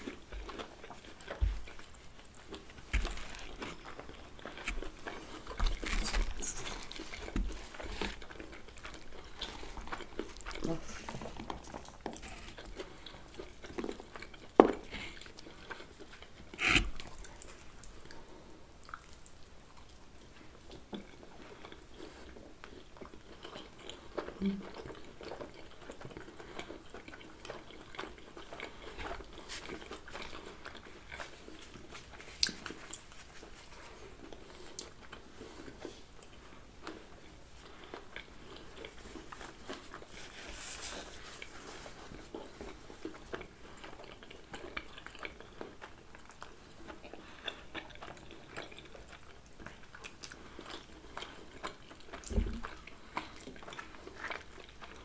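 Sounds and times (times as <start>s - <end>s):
chewing and biting pizza: 0.0s - 55.0s.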